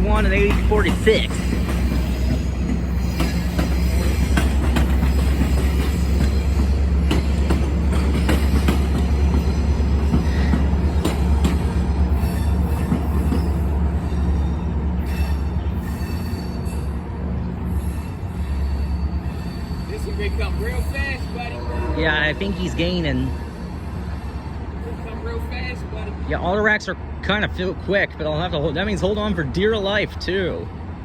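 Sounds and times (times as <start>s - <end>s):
train cars rumbling past: 0.0s - 31.0s.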